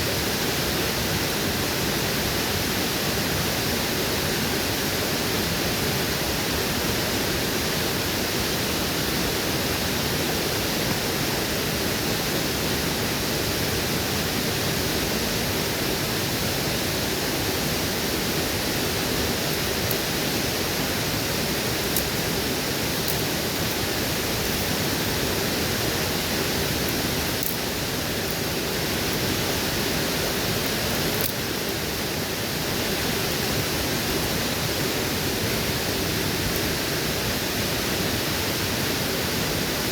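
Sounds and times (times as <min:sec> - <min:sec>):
waterfall rushing: 0:00.1 - 0:39.9.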